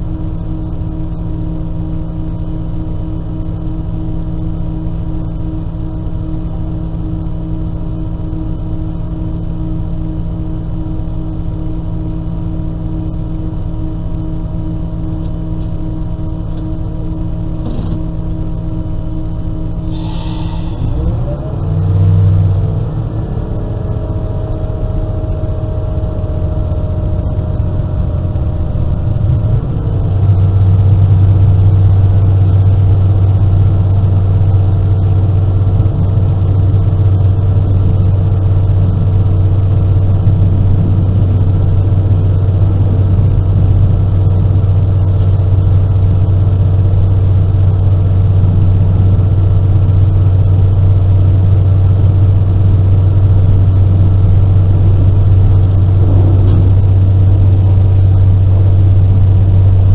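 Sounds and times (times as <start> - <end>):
railcar diesel engine: 0.0 - 59.9.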